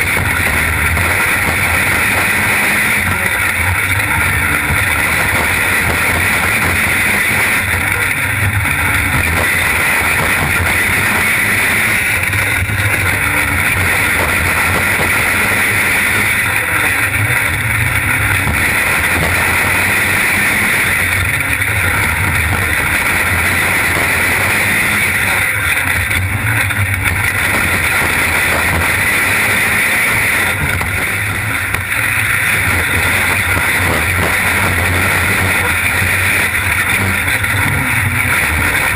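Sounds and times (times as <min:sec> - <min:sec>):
race car engine running hard: 0:00.0 - 0:38.9
wind and vibration noise: 0:00.0 - 0:38.9.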